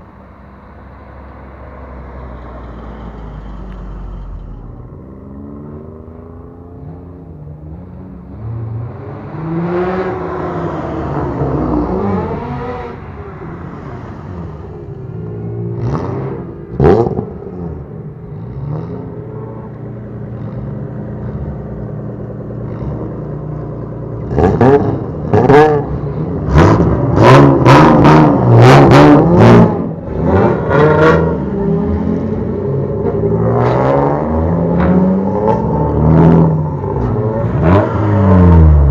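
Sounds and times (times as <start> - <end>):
car engine revving: 1.7 - 38.9.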